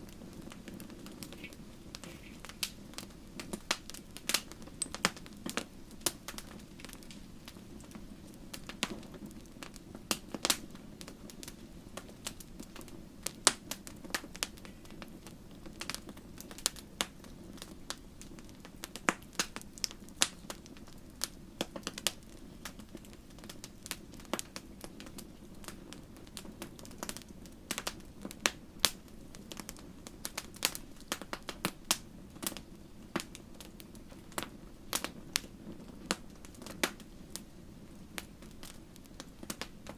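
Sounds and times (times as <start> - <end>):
low rush of burning: 0.0 - 39.9
wood fire crackling: 0.0 - 39.9.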